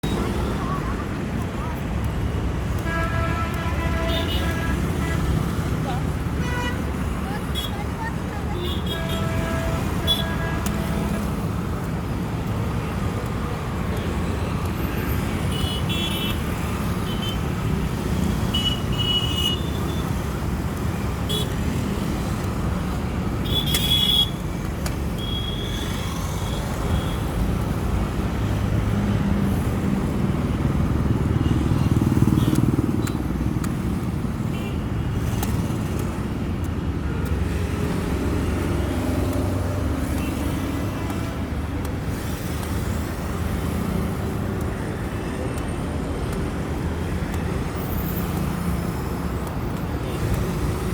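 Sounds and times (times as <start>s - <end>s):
rumble of passing vehicles: 0.0s - 50.9s.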